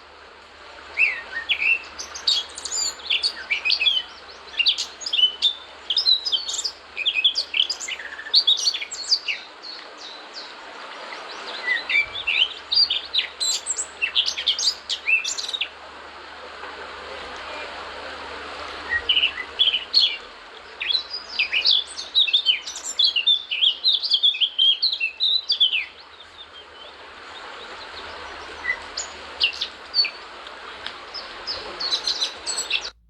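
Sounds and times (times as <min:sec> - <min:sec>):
birds chirping and twittering: 0:01.0 - 0:15.8, 0:18.7 - 0:33.0.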